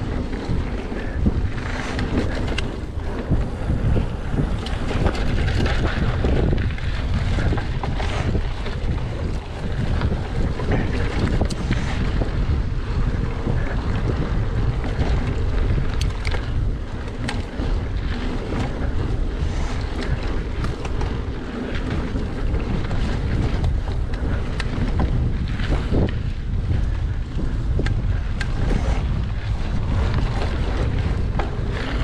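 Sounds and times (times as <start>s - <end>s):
bike clicks and rattles: 0.0s - 32.0s
tyres on dirt: 0.0s - 32.0s
wind buffeting microphone: 0.0s - 32.0s.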